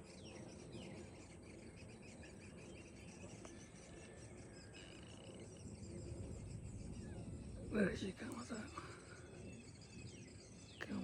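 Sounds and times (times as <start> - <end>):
nestlings chirping: 0.0 - 11.0.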